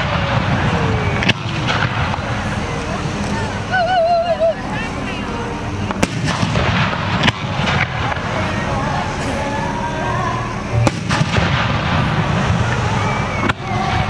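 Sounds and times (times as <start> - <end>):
firework shells bursting: 0.0 - 14.0
rumble of fireworks: 0.0 - 14.0.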